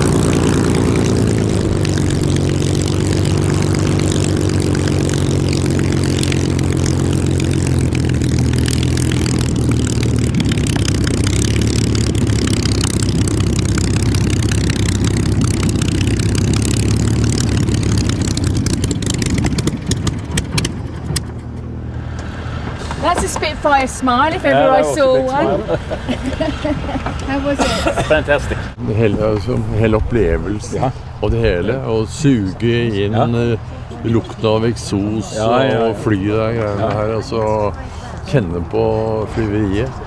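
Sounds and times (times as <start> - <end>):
propeller aircraft engine idling: 0.0 - 40.0.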